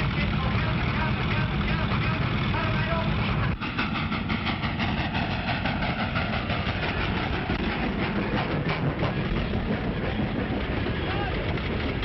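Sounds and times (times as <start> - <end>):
vehicle rhythmic clatter: 0.0 - 12.0.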